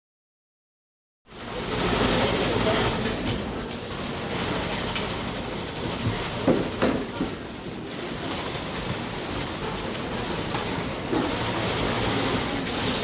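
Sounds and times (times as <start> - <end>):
lobby room noise: 1.3 - 13.0.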